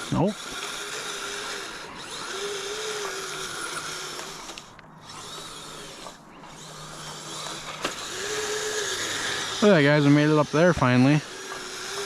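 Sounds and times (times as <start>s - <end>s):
electric motors whirring: 0.0s - 12.0s.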